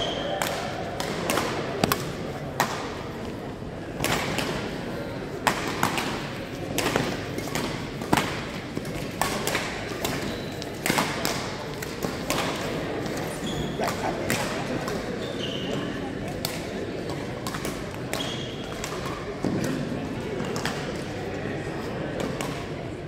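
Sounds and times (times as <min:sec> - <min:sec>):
rackets hitting shuttlecock: 0:00.0 - 0:15.2, 0:16.3 - 0:21.1, 0:22.0 - 0:22.8.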